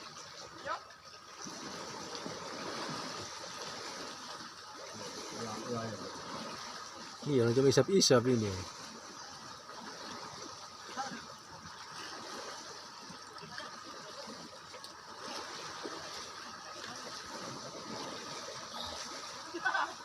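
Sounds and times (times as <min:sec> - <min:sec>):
water lapping and trickling: 0:00.0 - 0:20.0.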